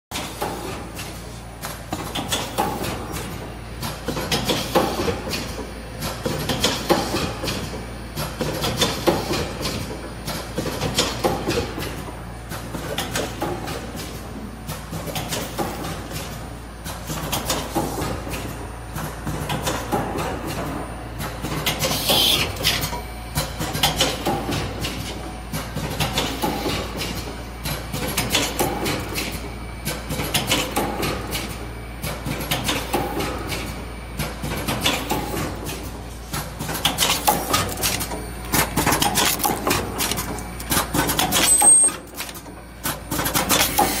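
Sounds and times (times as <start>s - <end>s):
machine clacking and knocking: 0.1s - 22.0s, 22.6s - 44.0s.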